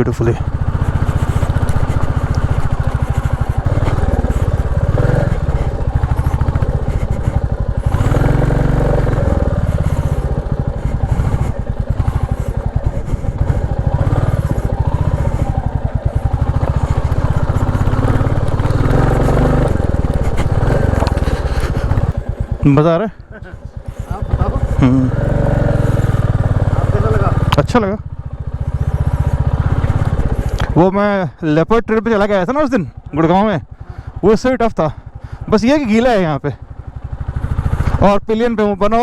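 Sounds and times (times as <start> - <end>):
motorcycle engine pulling at low revs: 0.0 - 39.0.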